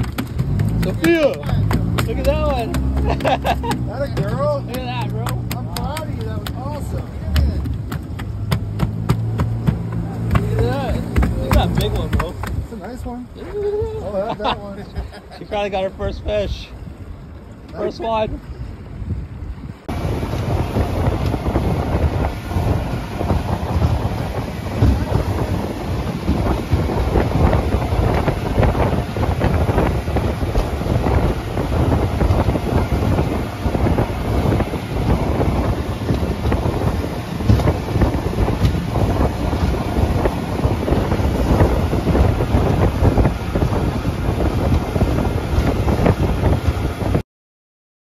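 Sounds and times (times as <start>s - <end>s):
boat running noise: 0.0s - 47.2s
wind buffeting microphone: 0.0s - 47.2s.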